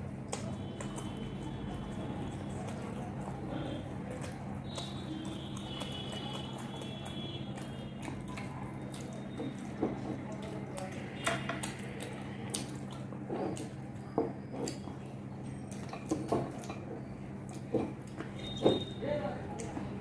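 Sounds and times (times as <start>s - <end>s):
fingers tearing flatbread: 0.2s - 19.0s
chewing: 0.2s - 20.0s.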